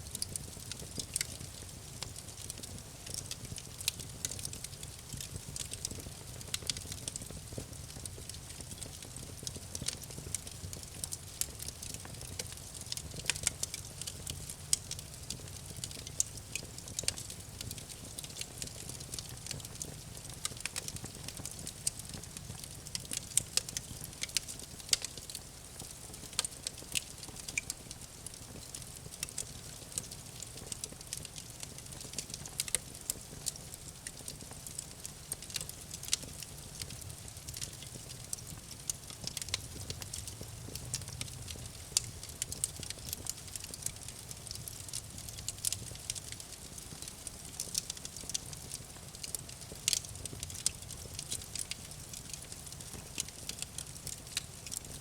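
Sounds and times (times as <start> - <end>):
campfire crackling: 0.1 - 55.0.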